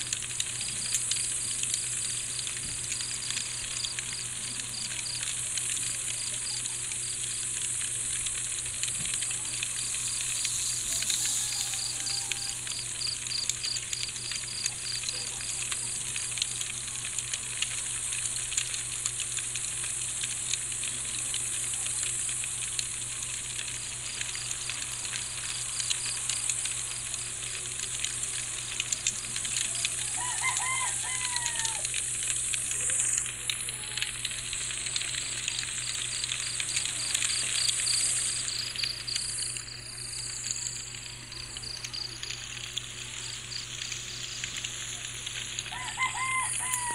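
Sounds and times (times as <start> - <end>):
campfire crackling: 0.0 - 46.9
crickets chirping: 0.5 - 16.4, 23.6 - 46.9.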